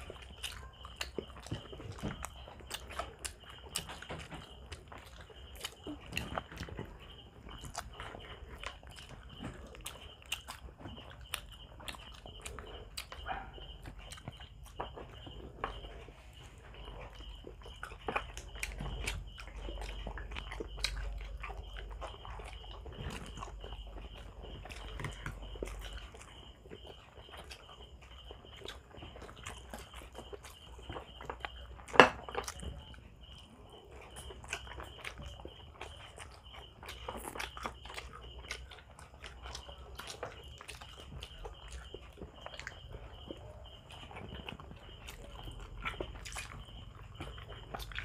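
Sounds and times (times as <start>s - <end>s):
eating clicks and smacks: 0.0s - 48.0s
people biting and chewing food: 0.0s - 48.0s.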